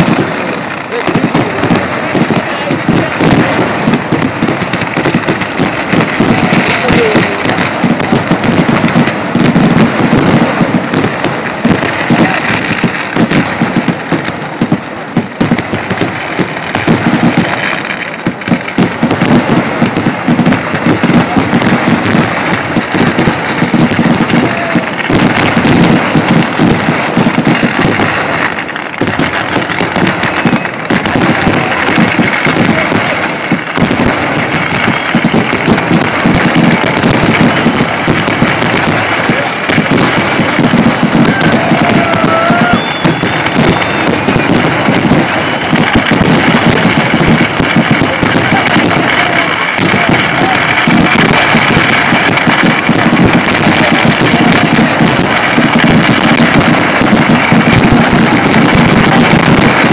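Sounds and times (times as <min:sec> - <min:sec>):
fireworks bangs barrage: 0:00.0 - 0:59.9.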